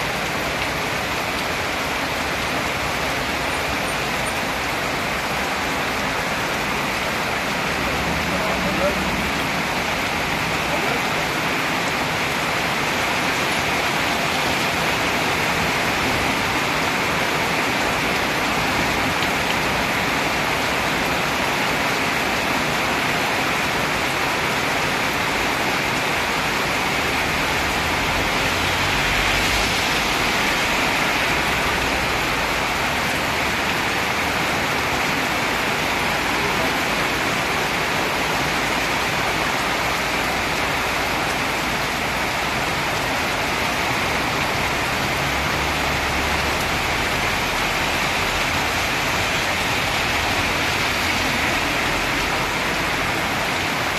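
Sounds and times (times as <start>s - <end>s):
heavy rain pouring: 0.0s - 53.9s
vehicle passing on wet road: 0.0s - 53.9s.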